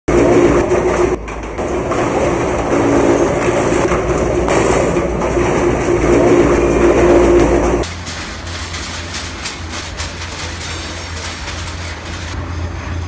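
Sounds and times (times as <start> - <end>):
machine humming and clattering: 0.1 - 13.0.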